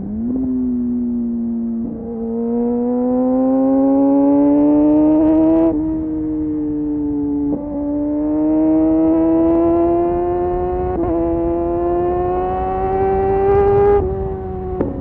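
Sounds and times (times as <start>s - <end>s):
motorcycle engine under throttle: 0.0s - 15.0s.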